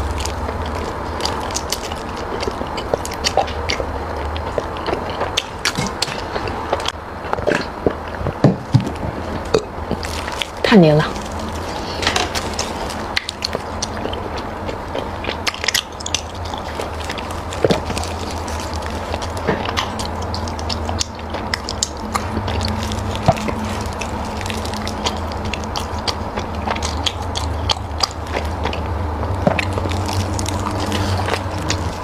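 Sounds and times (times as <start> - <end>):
chewing and biting food: 0.0 - 32.0
steady low hum: 0.0 - 32.0.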